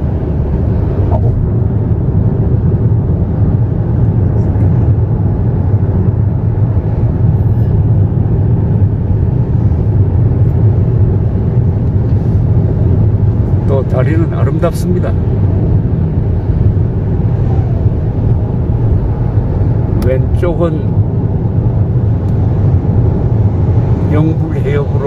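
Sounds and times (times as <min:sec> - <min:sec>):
car tyres and engine rumbling: 0:00.0 - 0:25.0.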